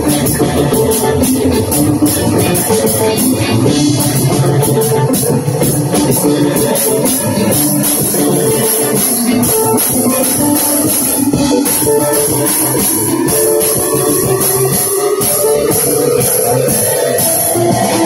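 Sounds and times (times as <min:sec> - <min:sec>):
bass guitar: 0:00.0 - 0:18.0
drum kit: 0:00.0 - 0:18.0
electric guitar: 0:00.0 - 0:18.0
electronic effects: 0:00.0 - 0:18.0.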